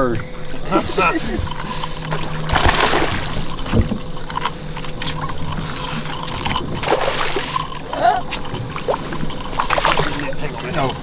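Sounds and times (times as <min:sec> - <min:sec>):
faint steady hum: 0:00.0 - 0:11.0
water splashing and sloshing: 0:00.0 - 0:11.0.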